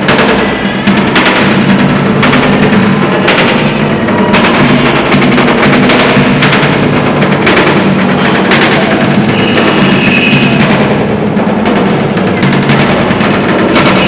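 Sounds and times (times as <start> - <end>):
fast live drumming: 0.0 - 14.0.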